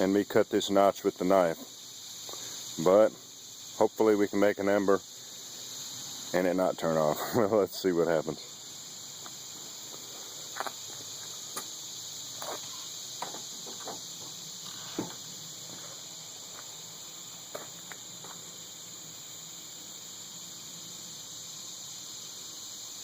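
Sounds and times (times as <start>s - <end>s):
insect chirring: 0.0s - 23.0s.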